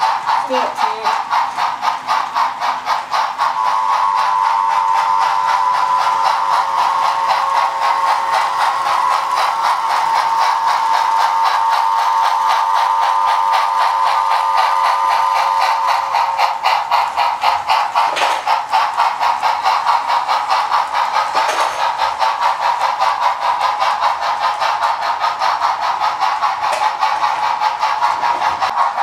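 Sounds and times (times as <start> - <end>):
model train steam chuffing: 0.0 - 29.0.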